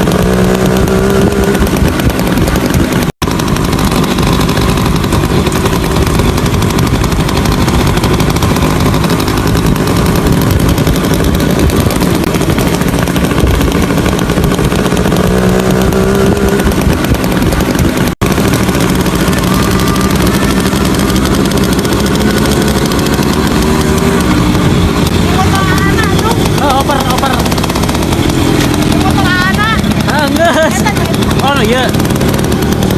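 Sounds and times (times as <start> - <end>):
motorcycle engine running rough: 0.0 - 32.9.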